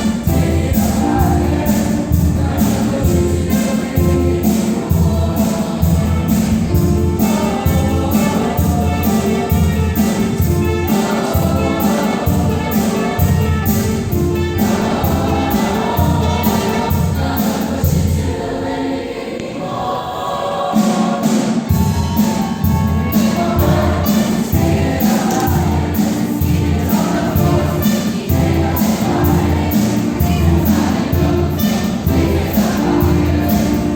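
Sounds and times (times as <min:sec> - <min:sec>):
instrumental backing with driving beat: 0:00.0 - 0:18.3, 0:20.9 - 0:33.9
choir singing in harmony: 0:00.0 - 0:33.9.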